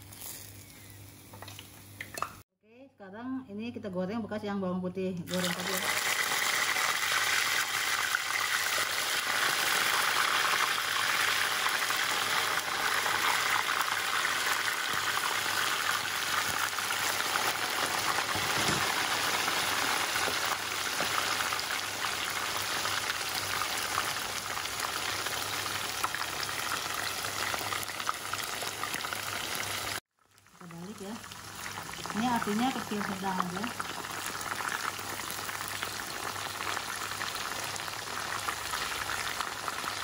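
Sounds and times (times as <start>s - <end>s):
chicken sizzling in hot oil: 5.3s - 40.0s.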